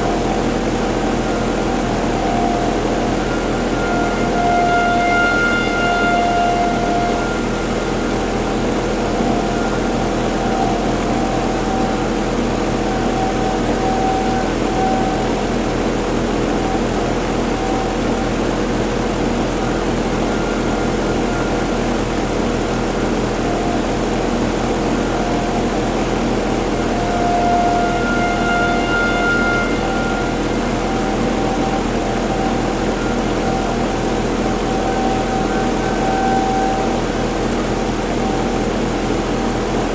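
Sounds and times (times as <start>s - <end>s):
rotating warning sirens: 0.0s - 39.9s
steady droning noise: 0.0s - 39.9s.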